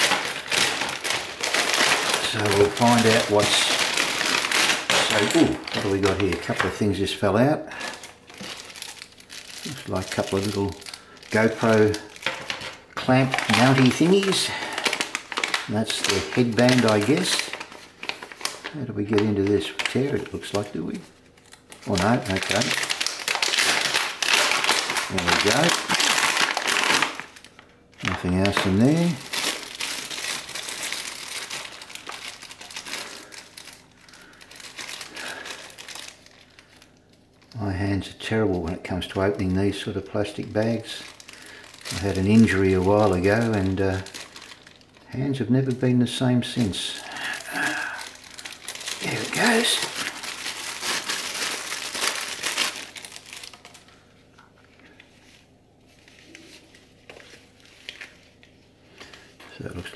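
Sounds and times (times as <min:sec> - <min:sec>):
plastic bag crinkling: 0:00.0 - 0:59.9.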